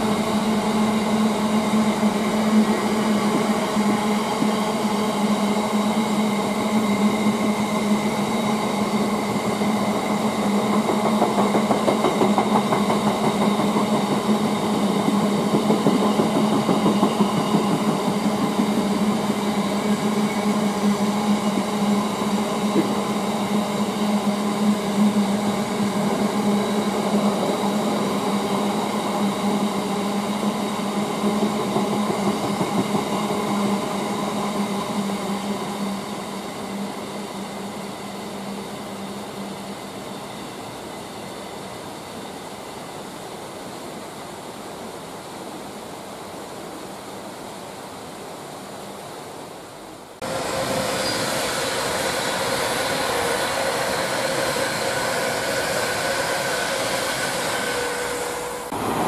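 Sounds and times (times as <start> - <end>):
train running low hum: 0.0 - 59.0.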